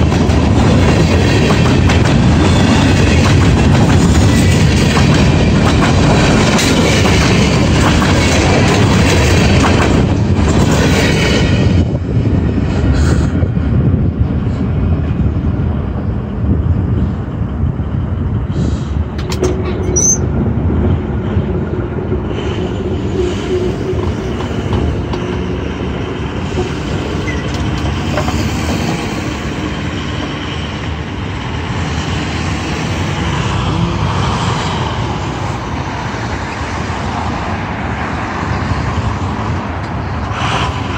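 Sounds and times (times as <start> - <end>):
train wheels clattering on rails: 0.0 - 13.6, 16.8 - 40.9.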